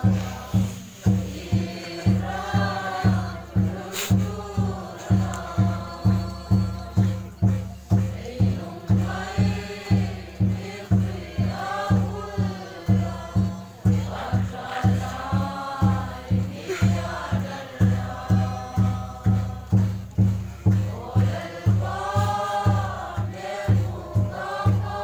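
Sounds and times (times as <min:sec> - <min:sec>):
deep drum beating: 0:00.0 - 0:25.0
group singing a hymn: 0:00.0 - 0:25.0.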